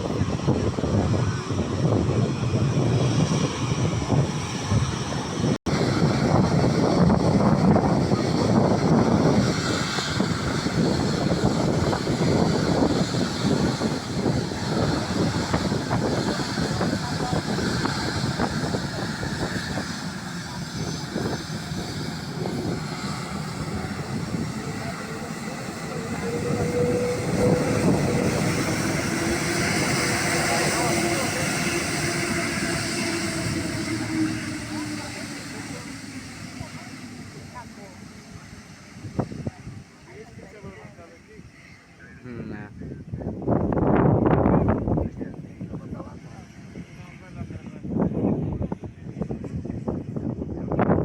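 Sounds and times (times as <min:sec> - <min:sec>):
jet engines rumbling: 0:00.0 - 0:51.0.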